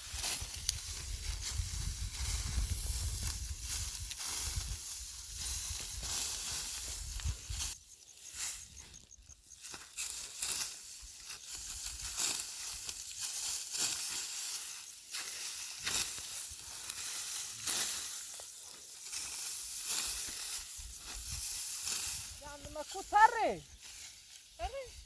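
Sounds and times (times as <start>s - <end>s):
dry wheat stalks crunching: 0.0s - 25.0s.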